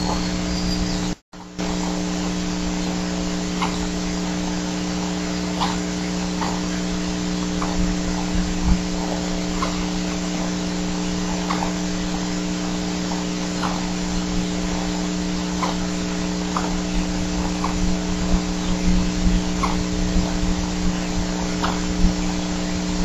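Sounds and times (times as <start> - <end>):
electrical hum and hiss: 0.0 - 23.0
low rumbling bumps: 0.0 - 23.0.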